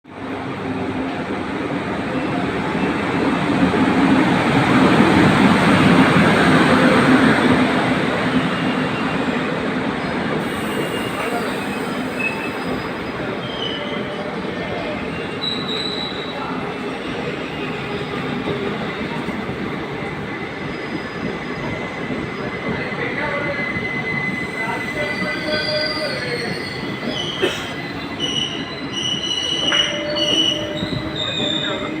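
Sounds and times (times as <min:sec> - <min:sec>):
train rumbling: 0:00.3 - 0:32.0.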